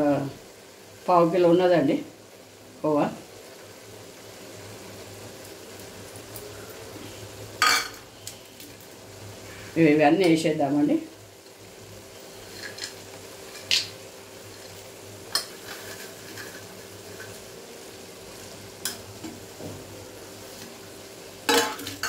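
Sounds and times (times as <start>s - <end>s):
faint sizzle and hiss: 0.0s - 22.0s.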